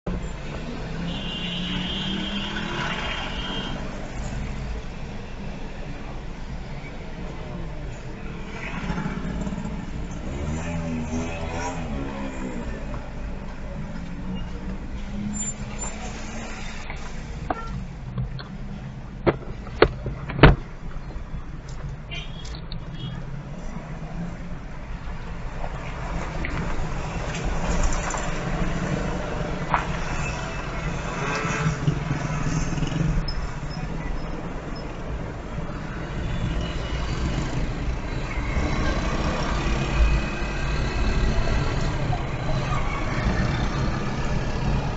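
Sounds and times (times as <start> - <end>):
vehicle engines rumbling: 0.0 - 44.9.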